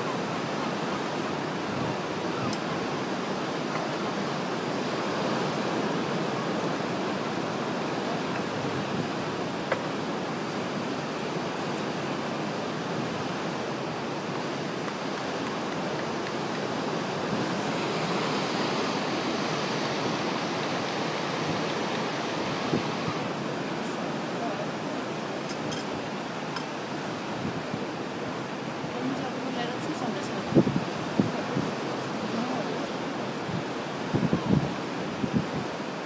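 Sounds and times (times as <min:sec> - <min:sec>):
ocean surf breaking on rocks: 0:00.0 - 0:36.0.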